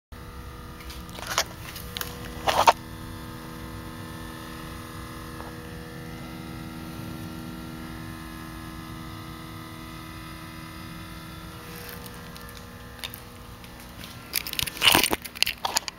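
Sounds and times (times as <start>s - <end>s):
electrical buzzing hum: 0.2s - 15.9s.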